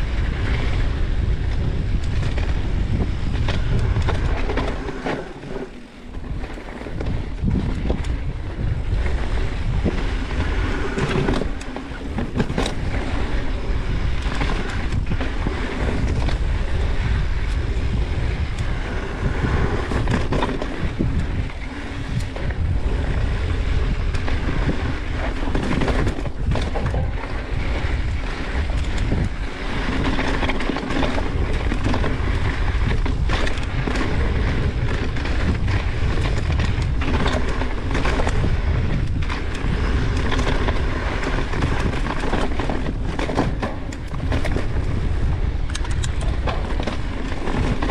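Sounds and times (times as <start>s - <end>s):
bike clicks and rattles: 0.0s - 47.9s
tyres rumbling on dirt: 0.0s - 47.9s
wind buffeting microphone: 0.0s - 47.9s.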